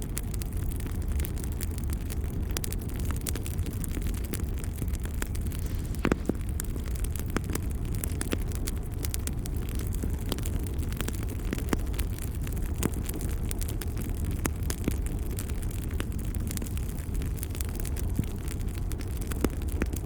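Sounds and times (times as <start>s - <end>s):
log fire crackling: 0.0s - 20.0s.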